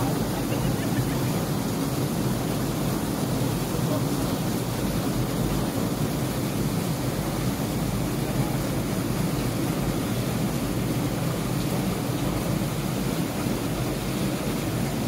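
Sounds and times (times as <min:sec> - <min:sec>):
waterfall plunging into pool: 0:00.0 - 0:15.0.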